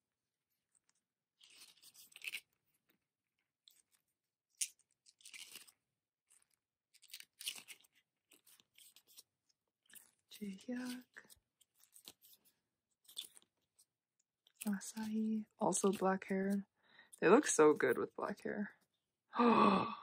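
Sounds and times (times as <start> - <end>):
card pages turning: 0.9 - 2.9, 3.7 - 18.5.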